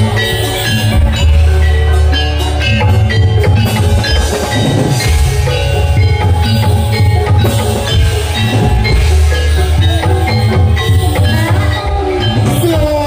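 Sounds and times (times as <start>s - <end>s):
drums: 0.0s - 13.0s
gamelan metal mallet instruments: 0.0s - 13.0s.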